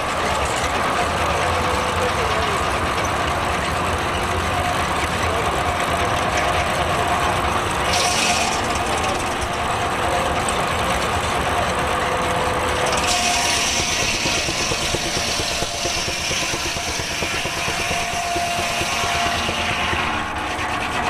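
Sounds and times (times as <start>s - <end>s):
sawmill running: 0.0s - 21.0s.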